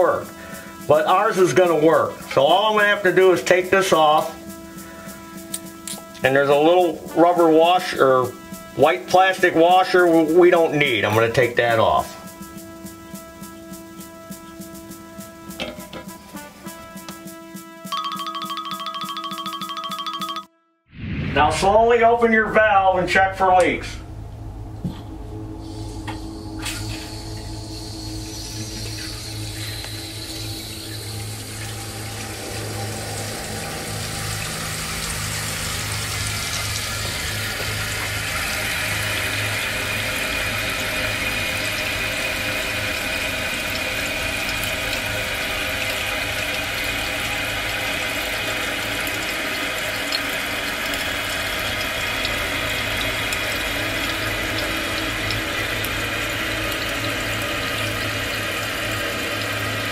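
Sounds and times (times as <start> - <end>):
water filling toilet tank: 0.0 - 17.2, 26.0 - 59.9.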